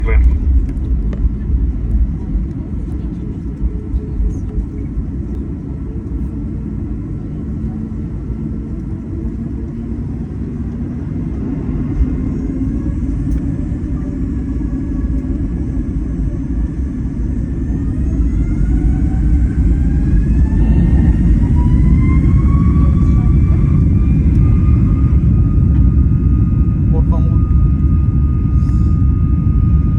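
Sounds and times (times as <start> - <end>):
jet engines rumbling: 0.0 - 29.9
jet engines whining as they spool up: 0.0 - 29.9.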